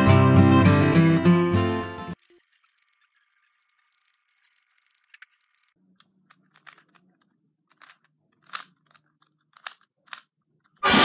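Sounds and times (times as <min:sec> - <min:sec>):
puzzle cube clicking: 0:01.4 - 0:10.8.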